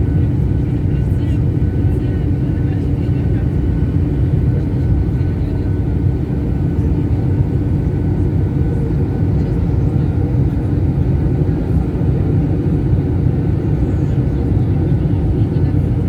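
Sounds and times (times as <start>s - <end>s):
airliner engines and airflow in cabin: 0.0s - 16.0s.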